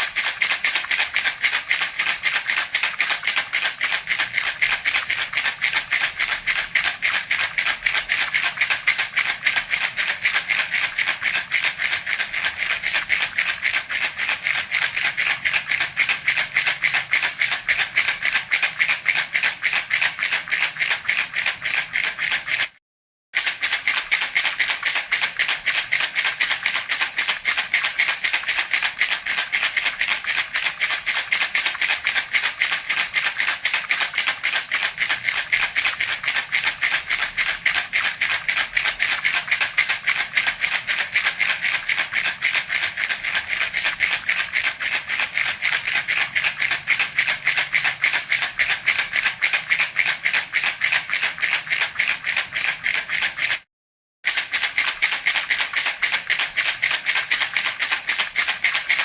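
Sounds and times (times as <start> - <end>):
baby's rattle shaking: 0.0 - 22.8, 23.4 - 53.7, 54.3 - 59.0.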